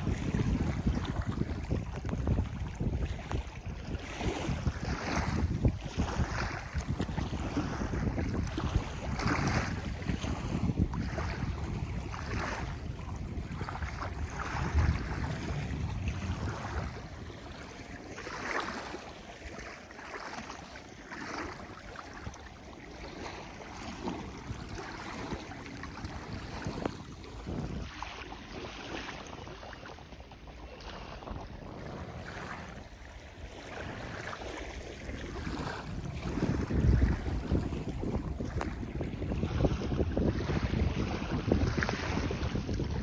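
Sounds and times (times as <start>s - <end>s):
water washing and splashing: 0.0s - 43.0s
wind buffeting microphone: 0.0s - 43.0s.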